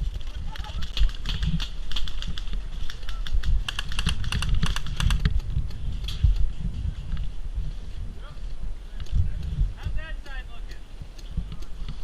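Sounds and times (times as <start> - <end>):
steady low rumble: 0.0 - 12.0
sharp clicks and snaps: 0.2 - 7.3, 9.0 - 12.0.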